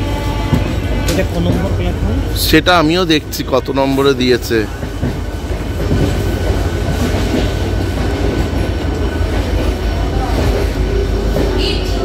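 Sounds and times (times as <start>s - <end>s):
train wheels rumbling over rails: 0.0s - 12.0s.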